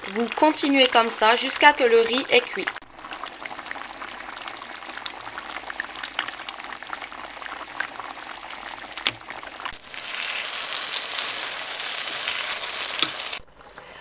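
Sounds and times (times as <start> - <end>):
rice bubbling and sizzling in pan: 0.0 - 13.8.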